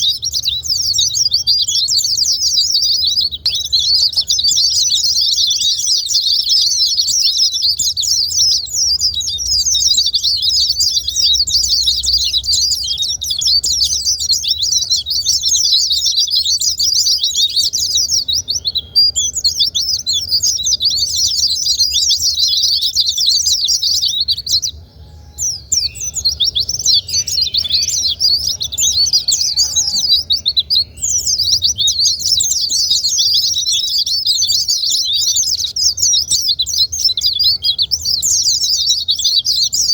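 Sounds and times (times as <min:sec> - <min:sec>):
birds twittering song: 0:00.0 - 0:39.9.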